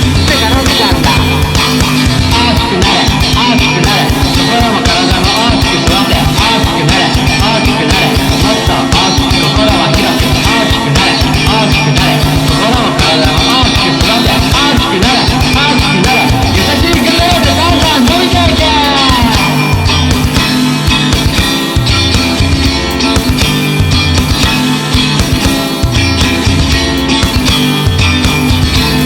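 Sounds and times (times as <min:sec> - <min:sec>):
bass and guitar notes: 0:00.0 - 0:29.0
fast punk rock music: 0:00.0 - 0:29.0
rapid drumming: 0:00.0 - 0:29.0.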